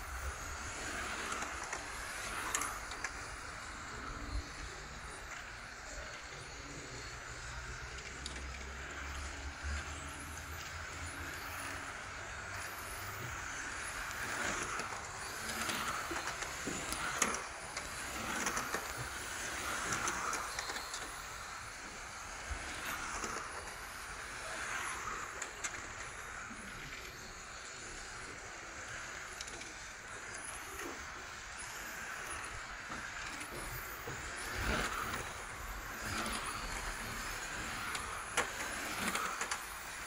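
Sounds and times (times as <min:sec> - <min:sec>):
rc cars motor whine: 0:00.0 - 0:40.0.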